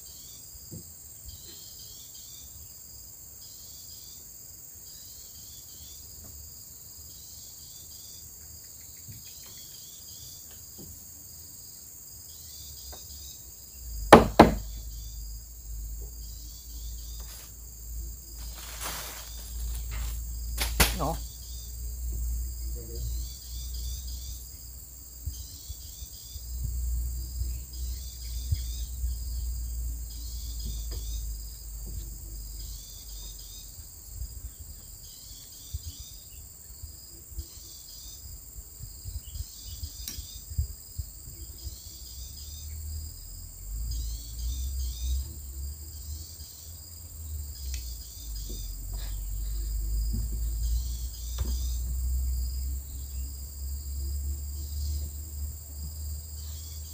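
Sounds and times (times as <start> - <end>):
high-pitched insect chorus: 0.0 - 56.9
insect chirping bursts: 0.0 - 56.9.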